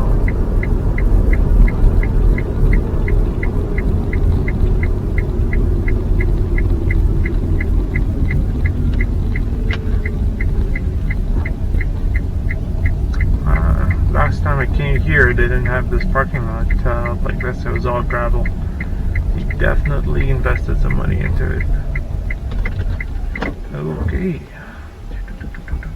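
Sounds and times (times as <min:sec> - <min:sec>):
car rolling rumble: 0:00.0 - 0:25.9
turn signal ticking: 0:00.0 - 0:25.9.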